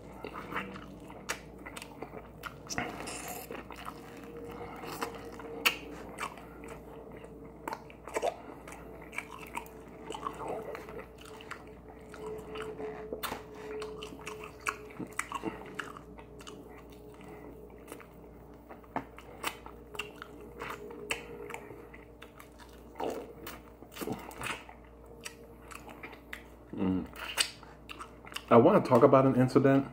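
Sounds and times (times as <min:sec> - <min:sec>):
chewing chicken wings: 0:00.0 - 0:29.1
faint steady hum: 0:00.0 - 0:29.9.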